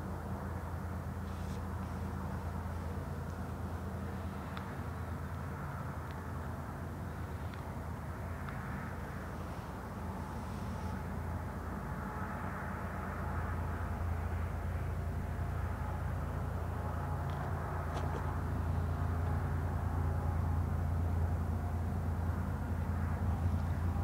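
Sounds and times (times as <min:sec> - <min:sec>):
diesel locomotive engines droning: 0:00.0 - 0:24.0.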